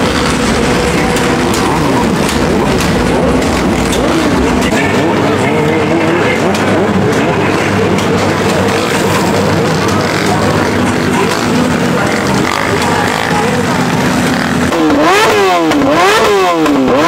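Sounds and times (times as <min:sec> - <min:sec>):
crowd noise: 0:00.0 - 0:17.0
motorcycle engines revving: 0:00.0 - 0:17.0.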